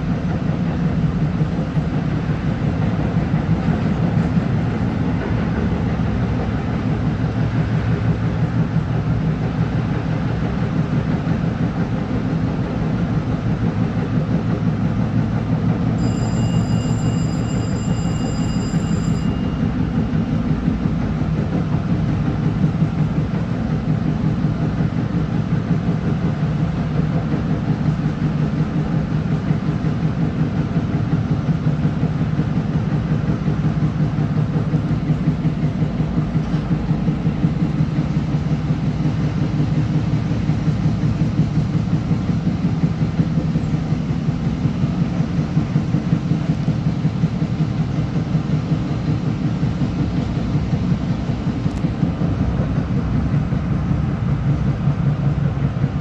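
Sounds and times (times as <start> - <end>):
train rumbling from inside: 0.0 - 56.0.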